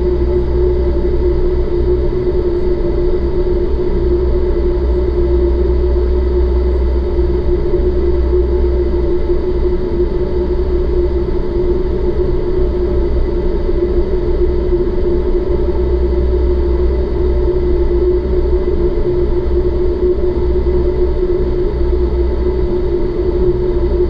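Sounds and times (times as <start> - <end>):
fans humming: 0.0 - 24.0
rush of air in wind tunnel: 0.0 - 24.0.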